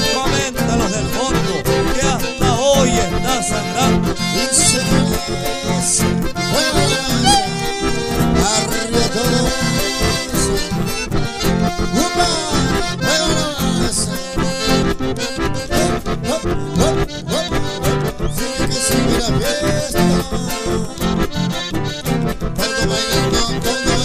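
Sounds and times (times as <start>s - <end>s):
button accordions playing: 0.0s - 24.0s
strummed acoustic guitar: 0.0s - 24.0s.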